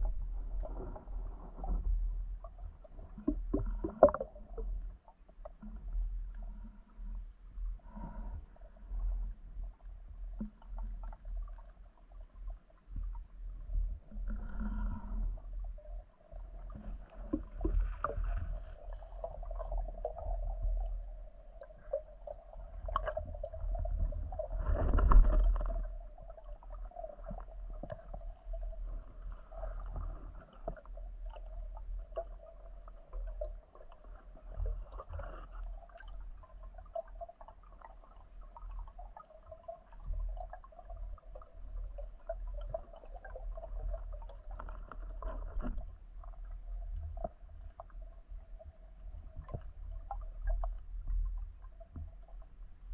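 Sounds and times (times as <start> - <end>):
low underwater rumble: 0.0 - 52.9.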